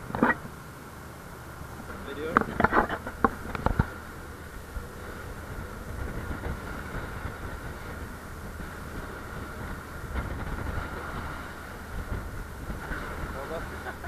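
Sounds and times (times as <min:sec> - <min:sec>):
boat engine drone: 0:00.0 - 0:14.0
water washing along hull: 0:00.0 - 0:14.0
wind rushing over microphone: 0:00.0 - 0:14.0.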